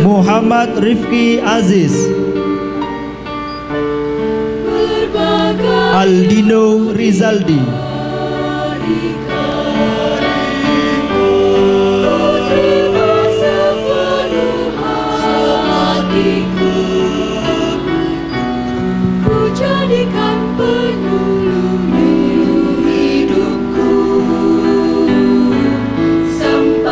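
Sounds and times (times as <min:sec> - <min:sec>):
choir singing held chords: 0:00.0 - 0:26.9.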